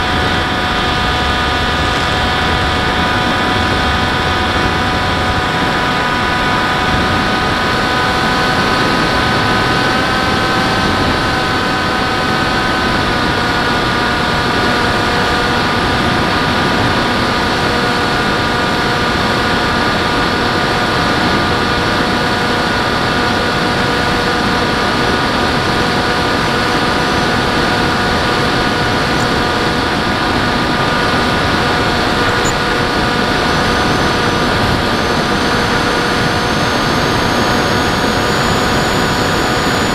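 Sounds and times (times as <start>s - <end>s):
model airplane motor whine: 0.0s - 39.9s
rushing wind: 0.0s - 39.9s.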